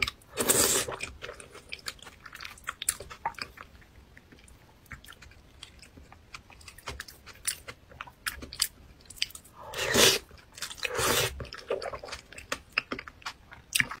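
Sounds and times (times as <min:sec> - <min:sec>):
wet chewing and mouth clicks: 0:00.0 - 0:14.0.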